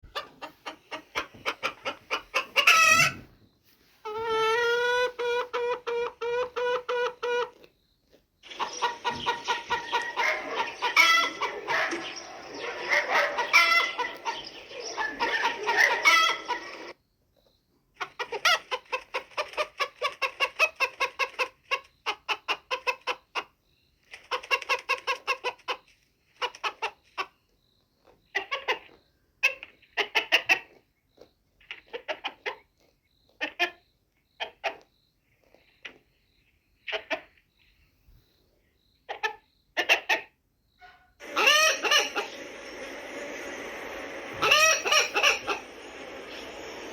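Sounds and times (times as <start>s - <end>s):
hens clucking: 0.0s - 3.4s, 4.0s - 17.0s, 18.0s - 27.4s, 28.0s - 33.8s, 34.4s - 36.1s, 36.8s - 37.6s, 39.1s - 46.9s.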